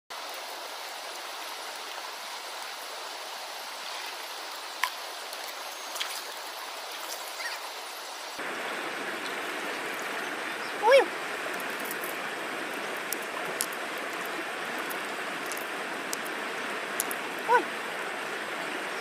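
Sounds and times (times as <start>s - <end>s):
river water rushing: 0.2s - 19.0s.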